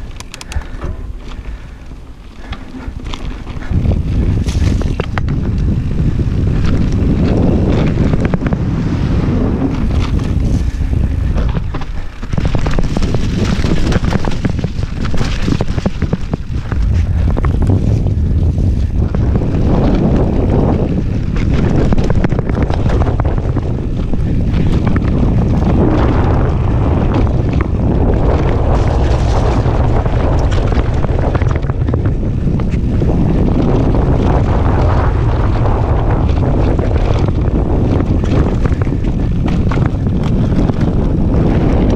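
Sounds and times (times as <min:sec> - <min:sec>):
bike rattling on rough trail: 0:00.0 - 0:41.9
tyre noise: 0:00.0 - 0:41.9
wind buffeting the microphone: 0:00.0 - 0:41.9.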